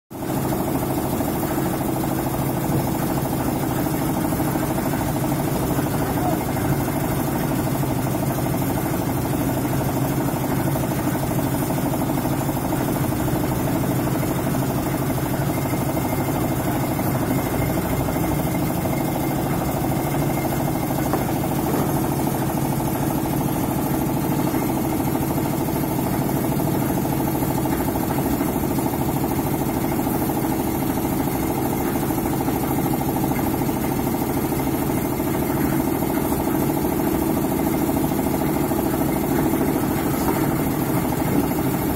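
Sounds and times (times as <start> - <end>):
hoist engine running: 0.2 - 41.9.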